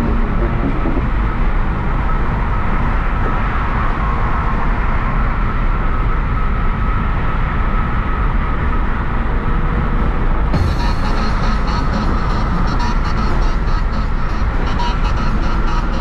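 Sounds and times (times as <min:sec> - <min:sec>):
car engine drone: 0:00.0 - 0:16.0
tyre road noise: 0:00.0 - 0:16.0.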